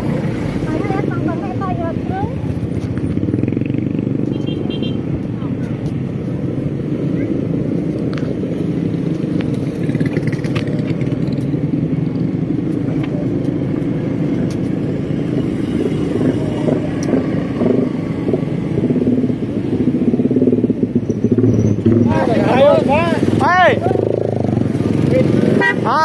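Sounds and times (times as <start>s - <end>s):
scooter engines droning: 0.0s - 26.0s.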